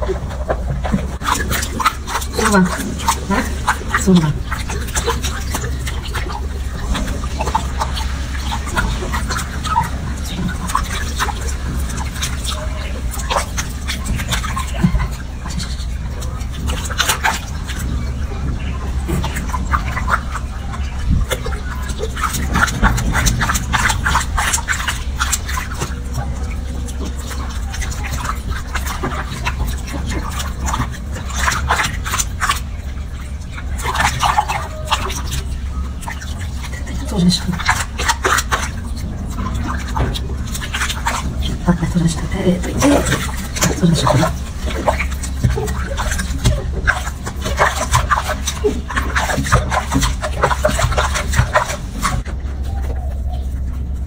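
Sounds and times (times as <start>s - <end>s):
rubbing of wet fur: 0.0s - 54.0s
steady low hum: 0.0s - 54.0s
water splashing in a washbasin: 0.0s - 54.0s.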